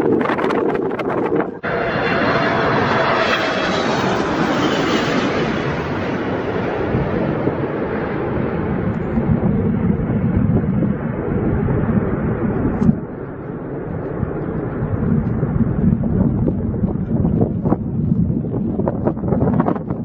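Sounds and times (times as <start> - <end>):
jet airliner engines passing: 0.0 - 20.0
wind buffeting microphone: 0.0 - 20.0.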